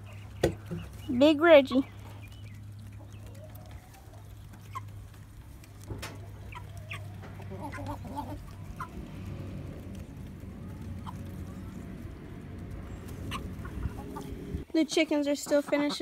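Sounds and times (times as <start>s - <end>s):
chickens clucking softly: 1.7s - 14.6s, 15.3s - 16.0s.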